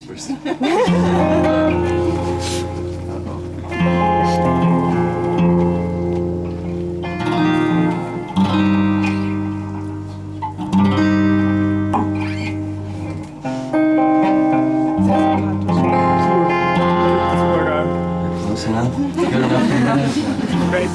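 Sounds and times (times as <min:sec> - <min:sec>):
guitar strumming chords: 0:00.8 - 0:20.9.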